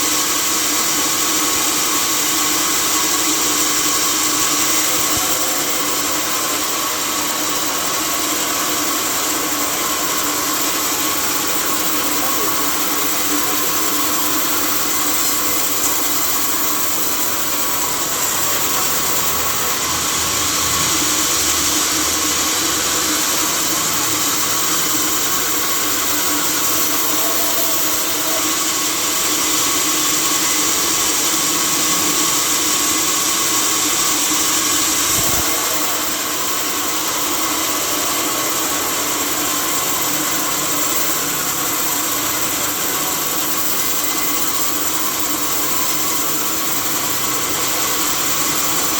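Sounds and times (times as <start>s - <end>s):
sawmill saw machinery humming: 0.0s - 48.9s.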